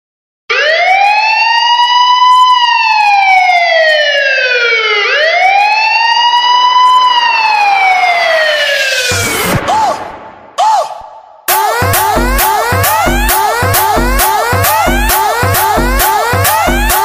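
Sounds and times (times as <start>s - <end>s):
vehicle siren wailing: 0.5s - 9.9s, 11.5s - 17.0s.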